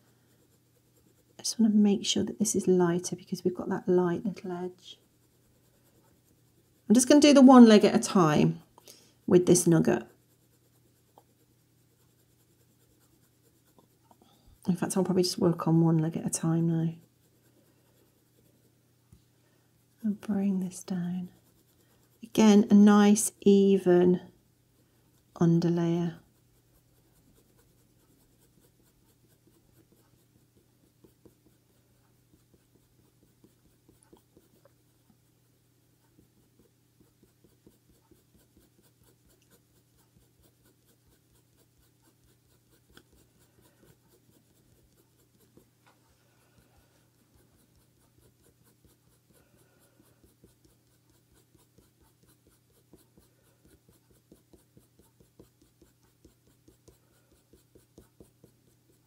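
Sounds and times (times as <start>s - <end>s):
pencil scratching on paper: 0.0s - 18.8s, 19.8s - 59.0s.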